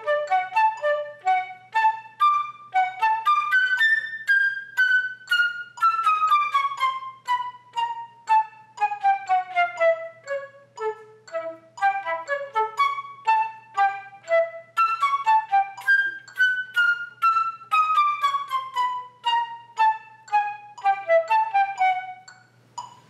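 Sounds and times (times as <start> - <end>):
flute playing short notes: 0.0 - 22.4.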